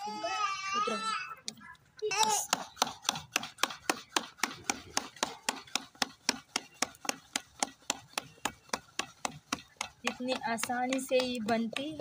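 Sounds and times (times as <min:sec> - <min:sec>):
hands slapping dough: 0:02.2 - 0:12.0.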